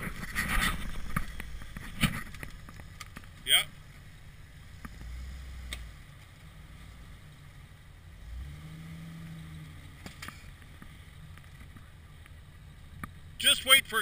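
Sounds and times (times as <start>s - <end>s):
vehicle engine revving: 0.0s - 13.4s.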